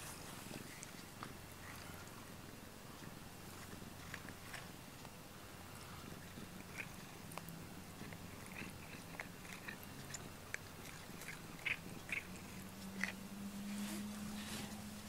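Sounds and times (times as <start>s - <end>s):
cat chewing rubber brush: 0.4s - 14.8s.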